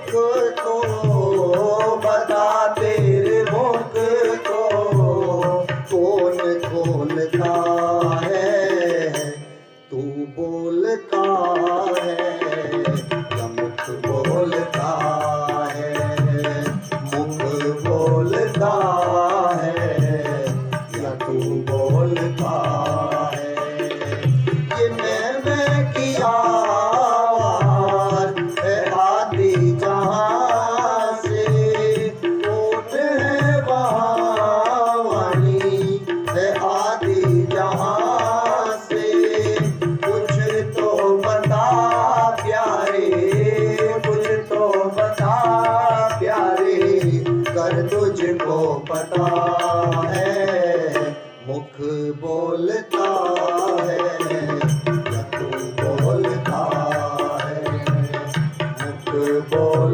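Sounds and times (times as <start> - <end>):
tabla rhythm: 0.0 - 59.9.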